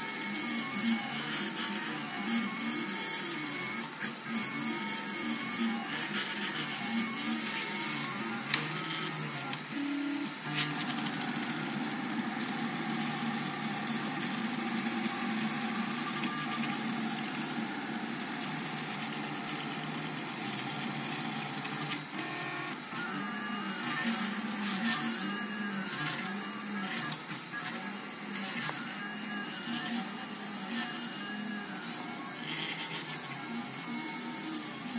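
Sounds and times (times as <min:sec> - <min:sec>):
three d printer motors whirring: 0:00.0 - 0:34.9.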